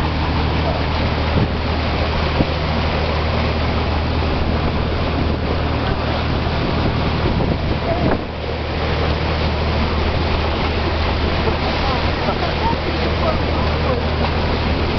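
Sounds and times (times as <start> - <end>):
boat engine humming: 0.0 - 14.9
rushing water: 0.0 - 14.9
wind: 0.0 - 14.9.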